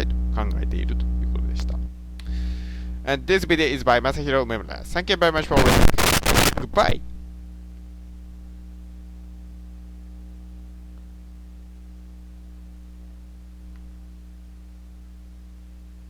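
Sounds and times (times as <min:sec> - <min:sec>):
mains hum: 0:00.0 - 0:16.0.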